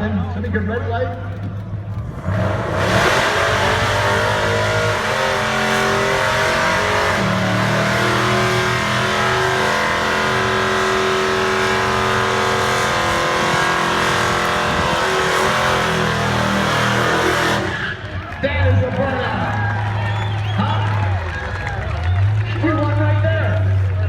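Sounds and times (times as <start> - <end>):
truck engines revving high: 0.0 - 24.0.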